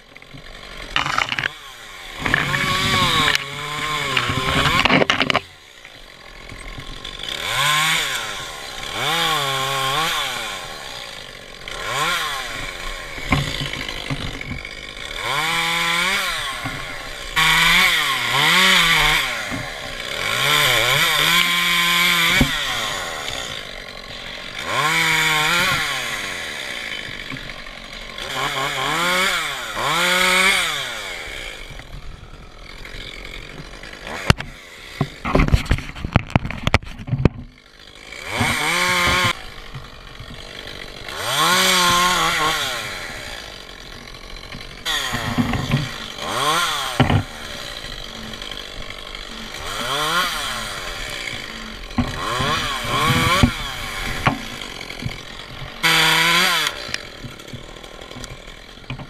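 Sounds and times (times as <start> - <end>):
chainsaw revving while cutting: 0.0 - 59.0.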